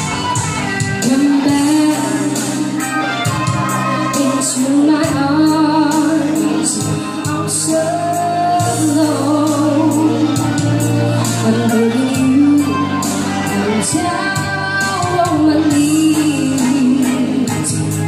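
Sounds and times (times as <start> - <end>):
band accompaniment: 0.0 - 18.0
woman singing into a microphone: 0.0 - 18.0.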